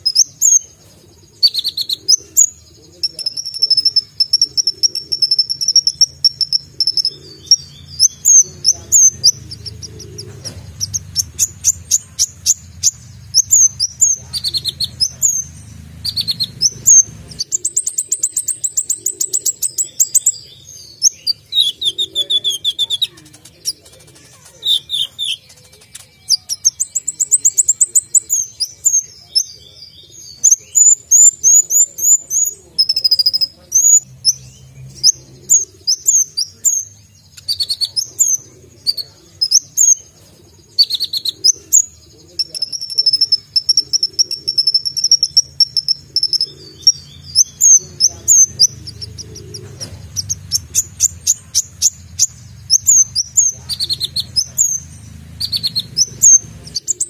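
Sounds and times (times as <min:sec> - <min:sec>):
sunbird singing: 0:00.0 - 0:57.0.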